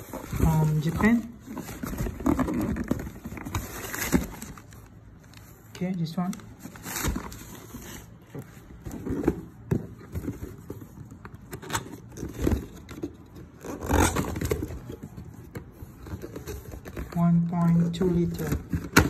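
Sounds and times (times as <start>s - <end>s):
cardboard scraping and rustling: 0.0s - 19.0s.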